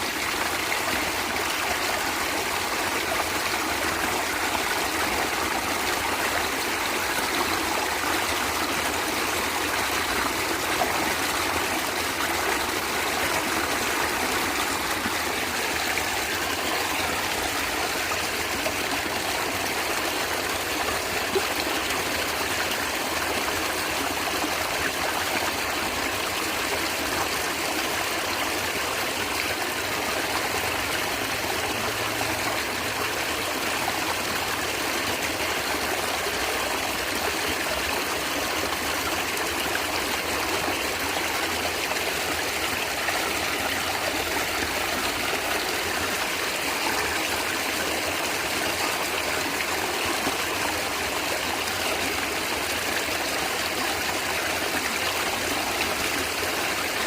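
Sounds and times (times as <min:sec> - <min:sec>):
stream gurgling and trickling: 0:00.0 - 0:57.0.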